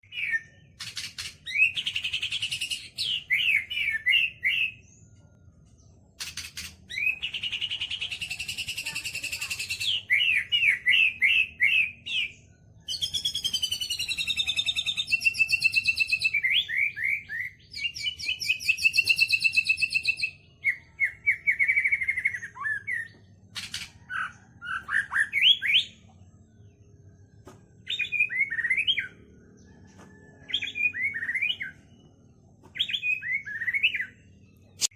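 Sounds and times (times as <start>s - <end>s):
songbird singing whistled phrases: 0.0s - 5.1s, 6.2s - 26.1s, 27.8s - 29.2s, 29.8s - 32.0s, 32.7s - 34.9s.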